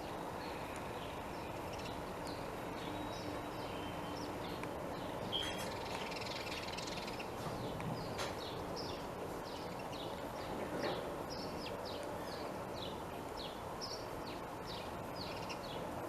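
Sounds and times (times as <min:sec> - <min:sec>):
background hiss: 0:00.0 - 0:16.0
small birds chirping: 0:00.0 - 0:16.0.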